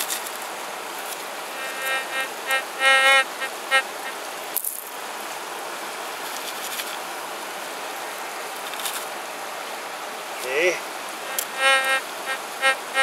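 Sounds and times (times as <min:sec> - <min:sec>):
river rushing: 0:00.0 - 0:06.3, 0:07.0 - 0:13.0.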